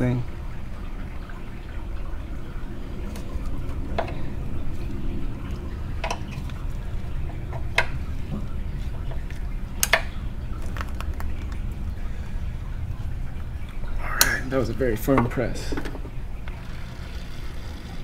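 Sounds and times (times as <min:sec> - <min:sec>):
fluid and air sputtering: 0:00.0 - 0:18.0
steady low hum: 0:00.0 - 0:18.0.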